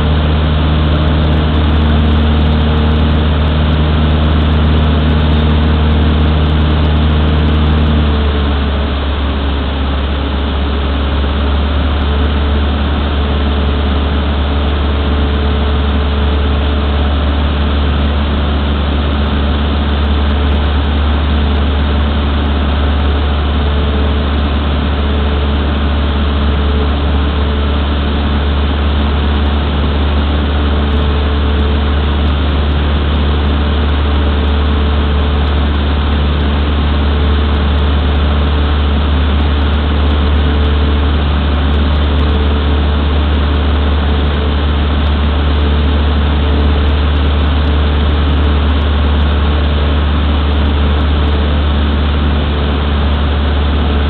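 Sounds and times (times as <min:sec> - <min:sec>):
light aircraft engine droning: 0:00.0 - 0:54.0.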